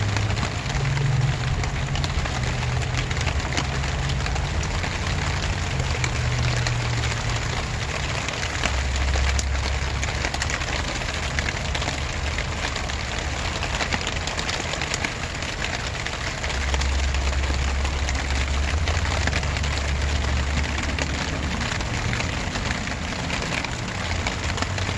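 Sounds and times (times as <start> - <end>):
raindrops ticking sharply: 0.0 - 24.9
steady rain falling: 0.0 - 24.9.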